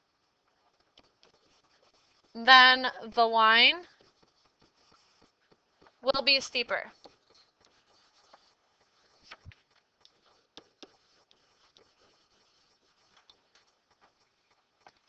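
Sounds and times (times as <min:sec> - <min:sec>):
pen writing on whiteboard: 0:00.0 - 0:15.0.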